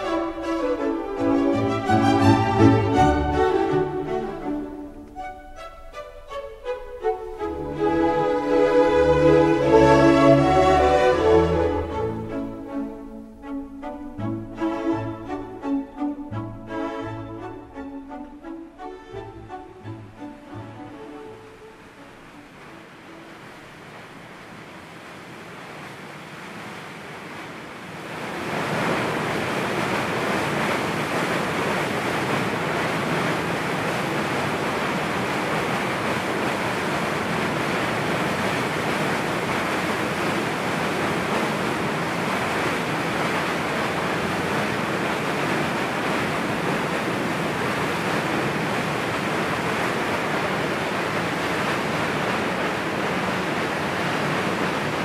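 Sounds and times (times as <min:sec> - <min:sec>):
water rushing from dam spillway: 0:00.0 - 0:55.0.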